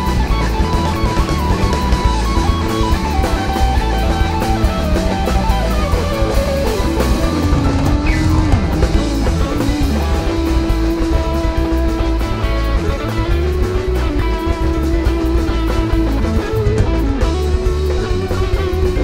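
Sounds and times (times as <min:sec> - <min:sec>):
bass: 0:00.0 - 0:19.0
drums: 0:00.0 - 0:19.0
lead line stepping down in pitch: 0:00.0 - 0:19.0
live rock band playing: 0:00.0 - 0:19.0.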